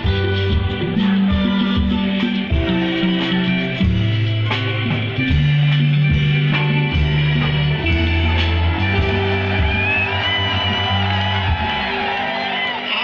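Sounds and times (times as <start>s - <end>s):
upbeat band music: 0.0s - 13.0s.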